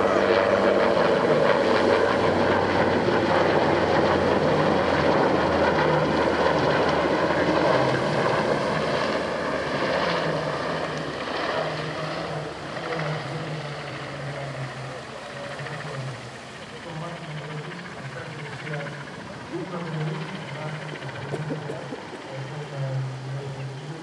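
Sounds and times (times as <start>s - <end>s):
helicopter flying past: 0.0s - 24.0s.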